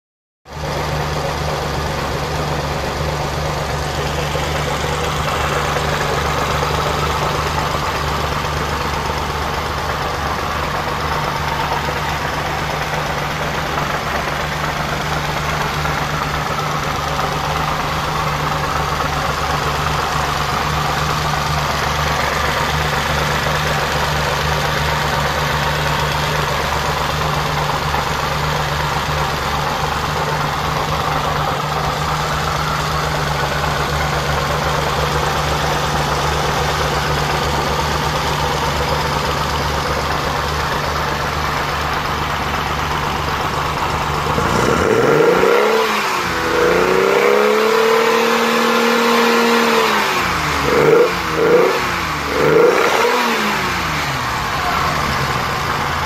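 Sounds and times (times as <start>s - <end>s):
car engine idling: 0.5s - 56.0s.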